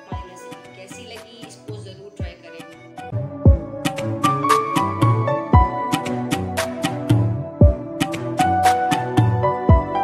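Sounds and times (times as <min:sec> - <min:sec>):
background music with sharp beat: 0:00.0 - 0:10.0.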